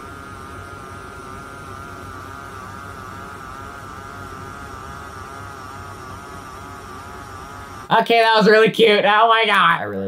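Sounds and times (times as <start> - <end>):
electric massager motor humming: 0.0 - 8.4.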